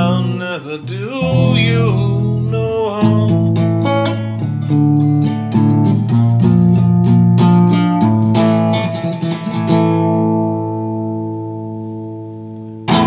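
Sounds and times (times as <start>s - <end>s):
guitar picked chords and notes: 0.0s - 13.0s.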